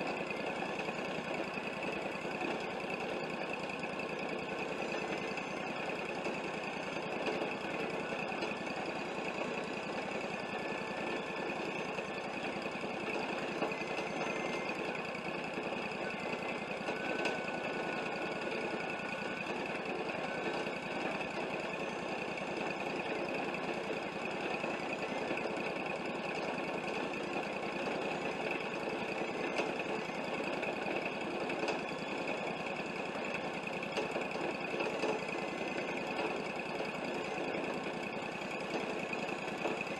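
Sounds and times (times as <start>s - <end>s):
bandsaw mill engine drone: 0.0s - 39.9s.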